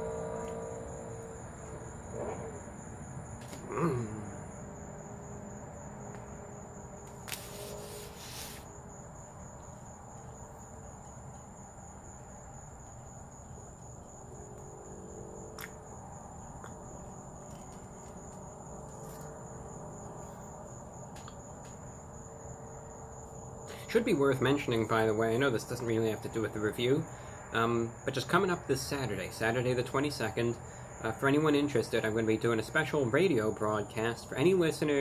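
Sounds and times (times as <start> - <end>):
crickets chirring: 0.0 - 35.0.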